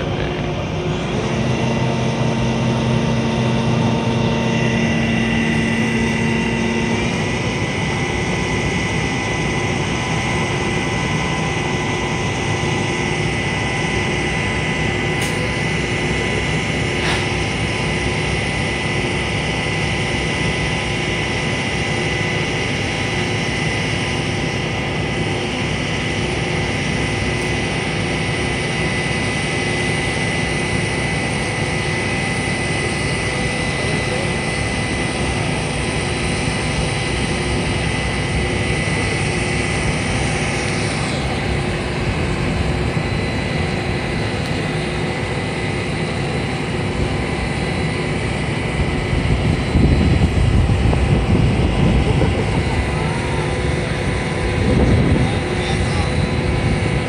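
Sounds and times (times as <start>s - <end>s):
crane engine and hydraulics drone: 0.0s - 57.0s
lower hum: 0.0s - 57.0s
thin high whine: 0.0s - 57.0s.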